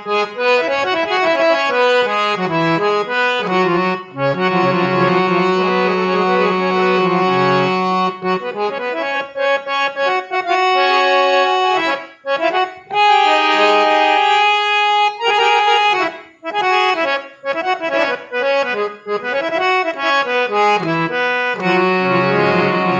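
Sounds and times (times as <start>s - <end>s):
harmonium melody: 0.0s - 22.9s.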